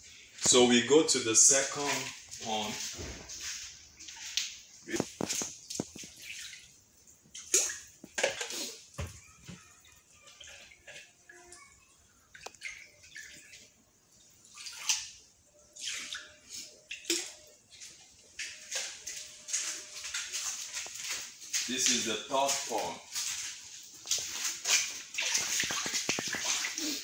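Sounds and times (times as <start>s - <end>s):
water splashing in a tank: 0.1s - 27.0s.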